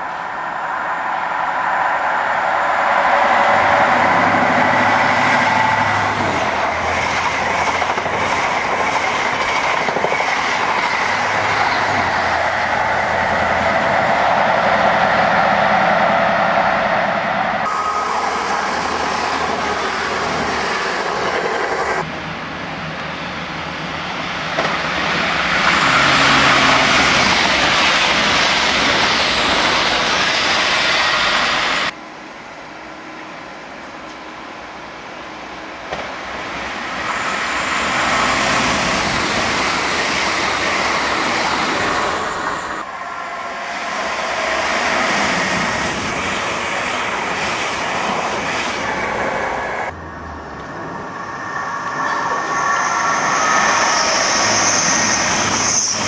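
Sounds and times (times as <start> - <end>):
train wheels rushing on rails: 0.0 - 32.0, 32.8 - 56.0.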